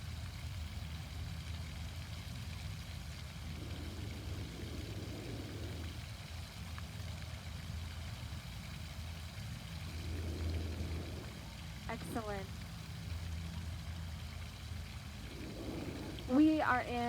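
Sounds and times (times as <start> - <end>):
soft outdoor hiss: 0.0 - 17.0
steady low hum: 0.0 - 17.0.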